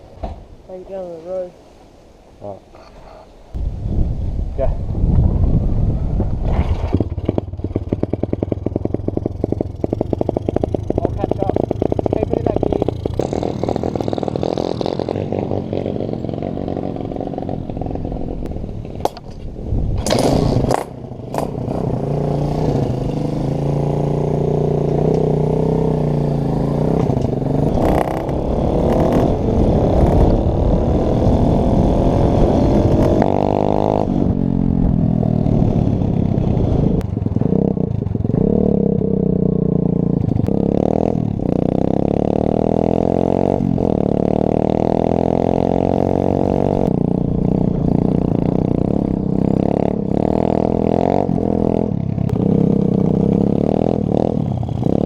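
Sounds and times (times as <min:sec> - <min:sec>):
pit bike engine accelerating: 0:05.6 - 0:19.1, 0:20.0 - 0:55.0.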